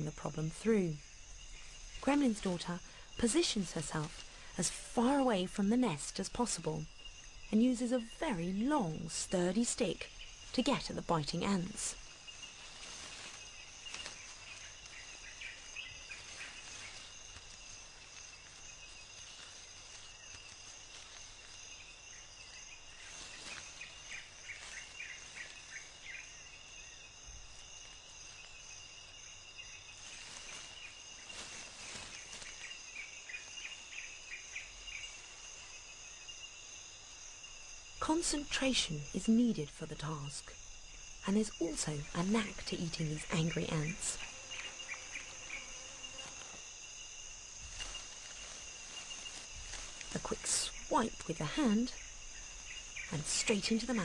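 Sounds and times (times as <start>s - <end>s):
insect chorus: 0.0s - 54.0s
soft rustles: 0.2s - 38.7s, 40.1s - 54.0s.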